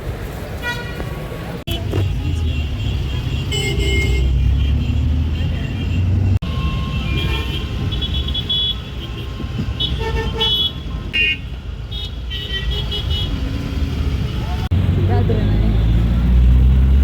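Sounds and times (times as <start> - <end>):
car engines rumbling: 0.0 - 12.0, 12.7 - 17.0.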